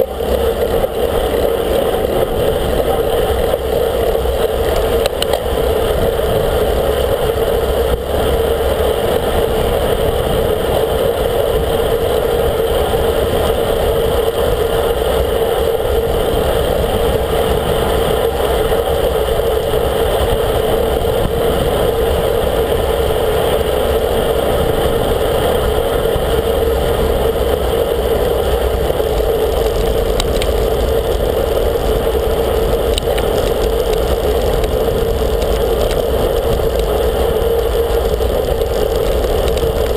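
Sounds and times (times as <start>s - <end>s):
bicycle tyre noise: 0.0s - 39.9s.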